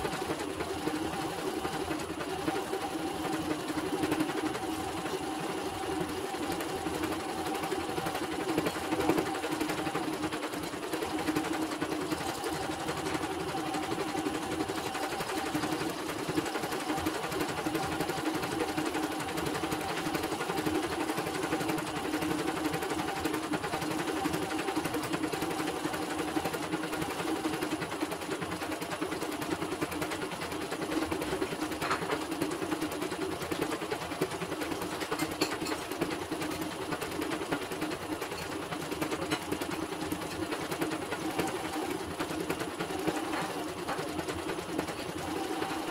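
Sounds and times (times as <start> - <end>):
embroidery machine stitching: 0.0 - 45.9.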